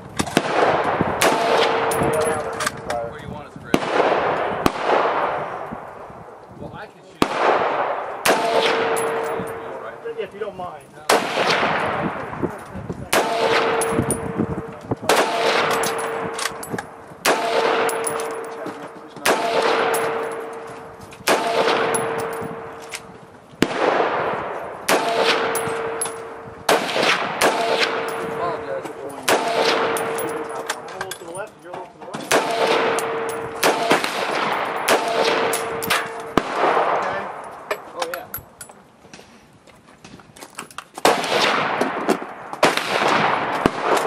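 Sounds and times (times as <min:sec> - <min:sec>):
rifle shots with echo: 0:00.2 - 0:03.0, 0:03.7 - 0:06.4, 0:07.1 - 0:10.3, 0:11.0 - 0:30.9, 0:32.2 - 0:38.0, 0:41.0 - 0:44.0.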